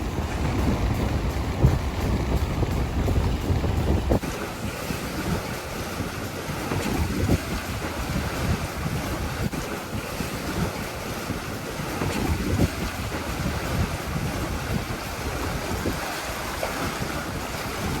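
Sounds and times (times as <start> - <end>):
sea surf: 0.0 - 18.0
wind buffeting microphone: 0.0 - 18.0.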